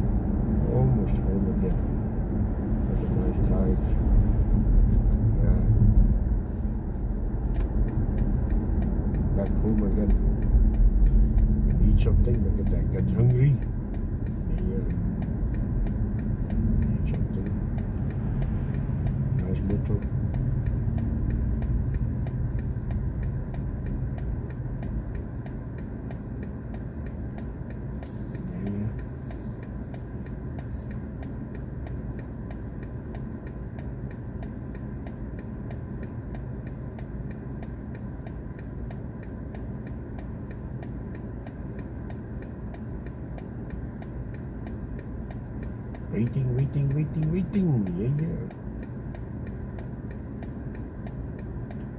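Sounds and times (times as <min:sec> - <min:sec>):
quiet steady hum: 0:00.0 - 0:51.9
faint regular ticking: 0:00.1 - 0:51.9.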